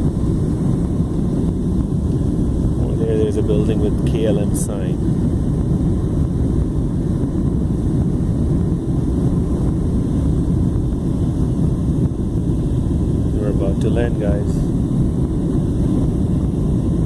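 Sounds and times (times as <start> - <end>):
jet engines in cabin: 0.0 - 17.0.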